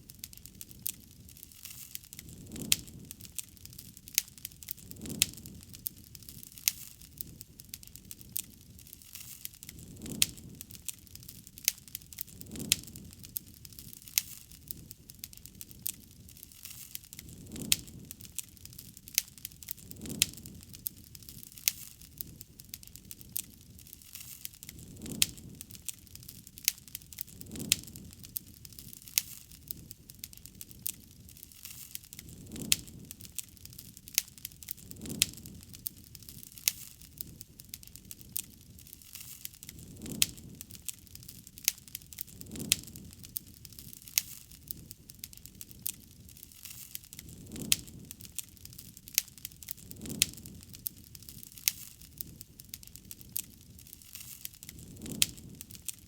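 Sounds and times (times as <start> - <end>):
campfire wood crackling: 0.0 - 56.0.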